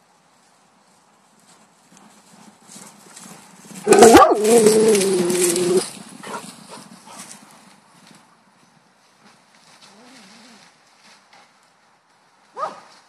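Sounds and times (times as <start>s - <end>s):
horse hooves galloping through grass: 0.0s - 13.0s.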